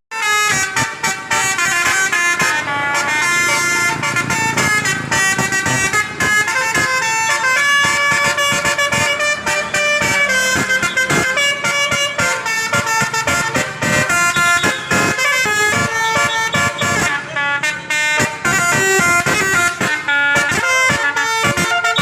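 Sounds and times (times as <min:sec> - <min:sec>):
bus horn playing a tune: 0:00.1 - 0:22.0.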